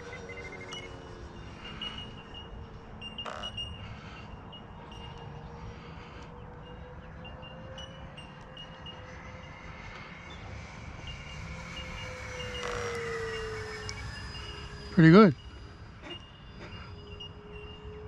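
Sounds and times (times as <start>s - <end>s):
model jet whine: 0.0s - 18.0s.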